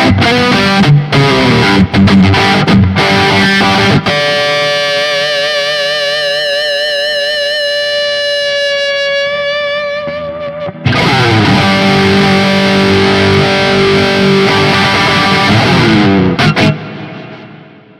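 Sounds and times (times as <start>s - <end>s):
distorted electric guitar: 0.0s - 17.9s.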